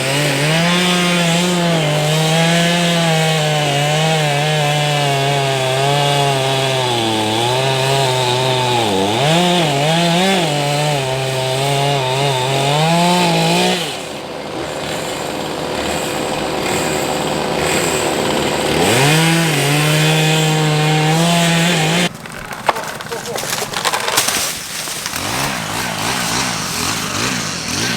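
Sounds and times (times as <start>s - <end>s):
chainsaw cutting wood: 0.0s - 27.9s.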